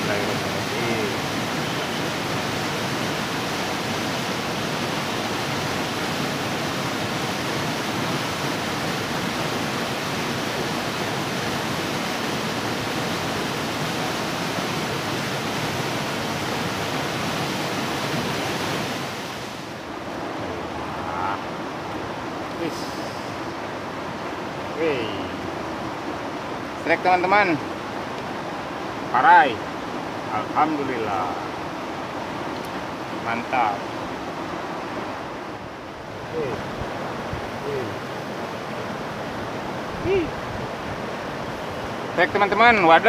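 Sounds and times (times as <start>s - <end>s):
small waterfall rushing: 0.0s - 43.0s.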